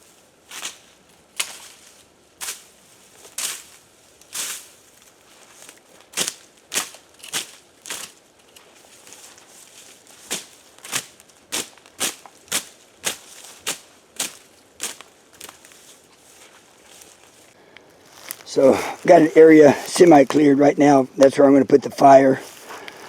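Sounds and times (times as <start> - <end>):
pine needles and leaves crunching: 0.0 - 21.4, 22.0 - 23.0.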